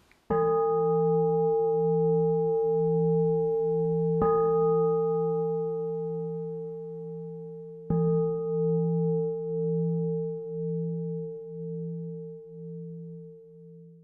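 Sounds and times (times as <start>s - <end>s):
singing bowl ringing: 0.3s - 14.0s.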